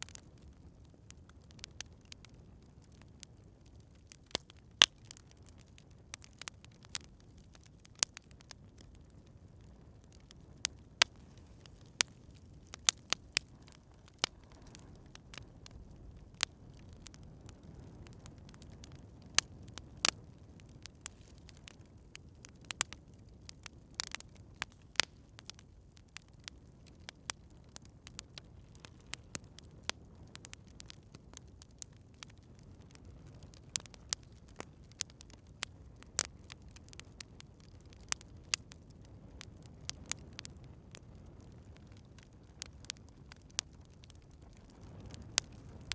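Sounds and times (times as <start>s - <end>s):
campfire crackling and popping: 0.0s - 45.9s
low rumble of burning fire: 0.0s - 45.9s.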